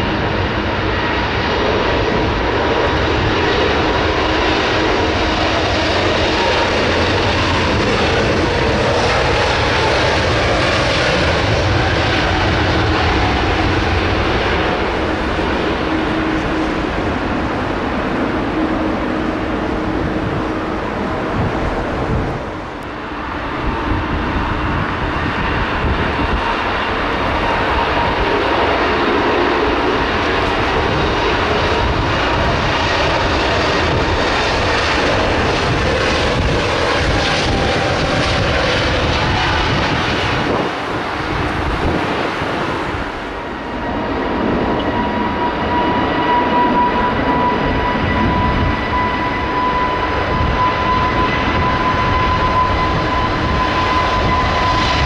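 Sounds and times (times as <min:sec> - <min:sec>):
jet engines roaring at takeoff: 0:00.0 - 0:55.0.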